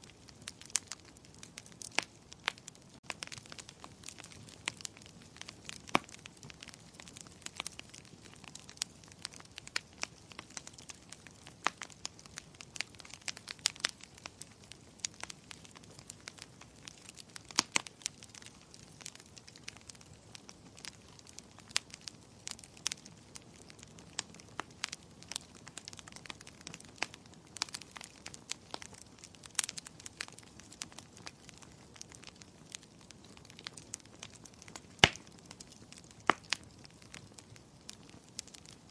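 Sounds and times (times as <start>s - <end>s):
low rumble of burning: 0.0s - 38.9s
wood fire crackling: 0.0s - 38.9s.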